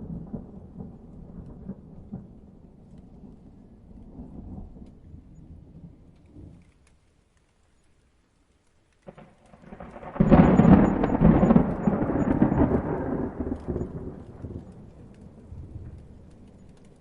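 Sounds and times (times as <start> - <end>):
thunder crack and rumbling: 0.0 - 6.6, 9.1 - 17.0.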